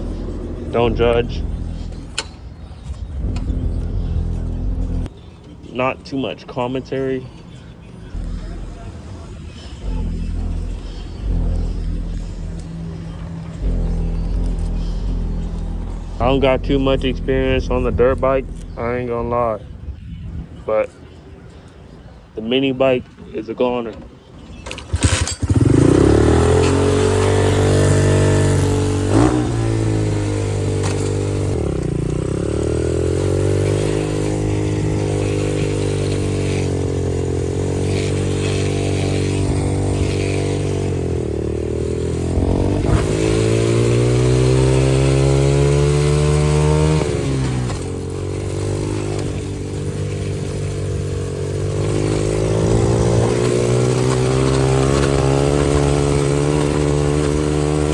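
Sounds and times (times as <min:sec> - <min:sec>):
dirt bike engine revving: 0:00.0 - 0:05.1, 0:08.1 - 0:19.5, 0:24.7 - 0:57.9.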